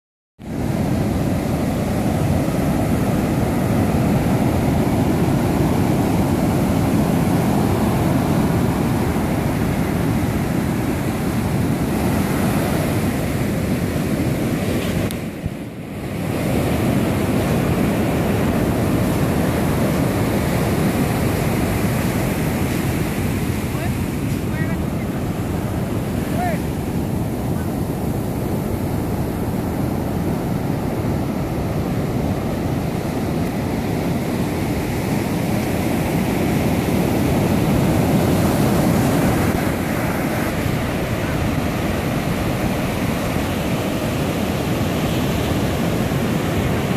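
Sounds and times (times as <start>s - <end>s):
ocean surf breaking on beach: 0.4s - 46.9s.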